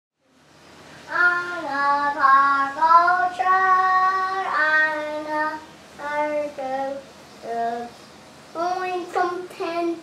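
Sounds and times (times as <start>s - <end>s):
child singing a simple tune: 1.0s - 10.0s.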